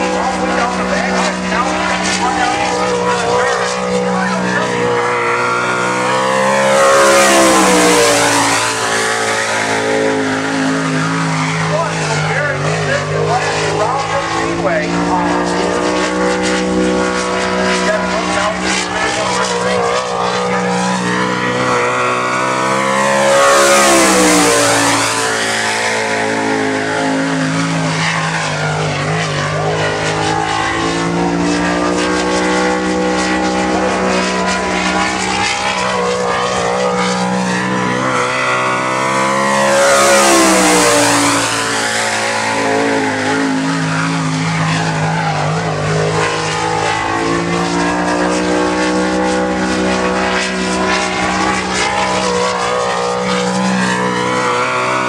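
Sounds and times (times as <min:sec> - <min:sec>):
race car engine passing: 0:00.0 - 0:55.0.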